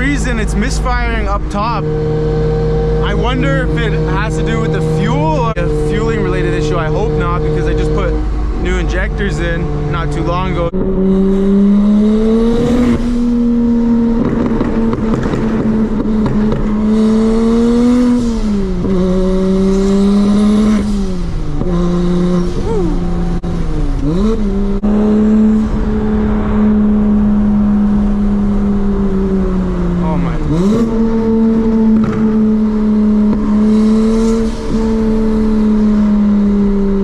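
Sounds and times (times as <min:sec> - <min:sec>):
car engine running under load: 0:00.0 - 0:37.0.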